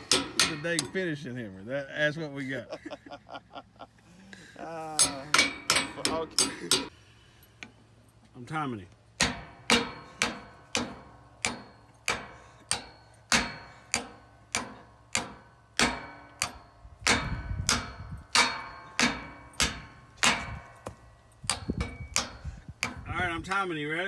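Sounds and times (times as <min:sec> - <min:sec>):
hammer driving ground stakes: 0:00.0 - 0:01.3, 0:04.0 - 0:08.2, 0:09.2 - 0:24.0.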